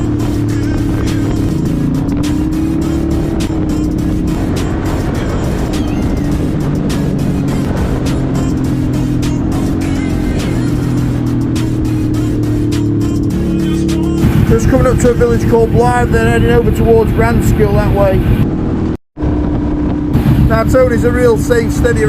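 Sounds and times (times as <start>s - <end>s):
wind noise: 0.0s - 11.5s, 14.2s - 22.0s
music playing: 0.0s - 18.4s
motorcycle engine running: 0.0s - 22.0s.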